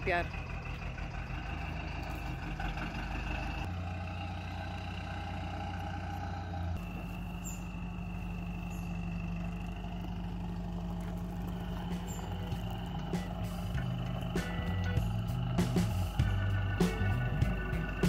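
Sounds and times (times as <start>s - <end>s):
motorhome engine running slowly: 0.0s - 18.0s.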